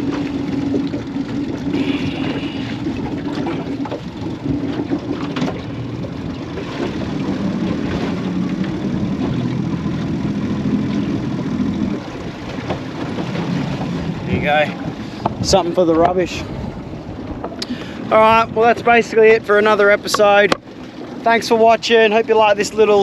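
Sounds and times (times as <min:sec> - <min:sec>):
outboard motor idling: 0:00.0 - 0:23.0.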